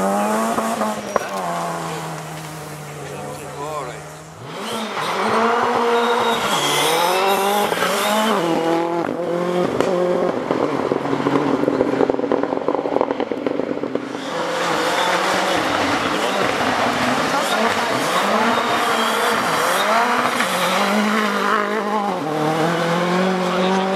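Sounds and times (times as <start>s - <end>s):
rally car engine revving: 0.0s - 23.9s.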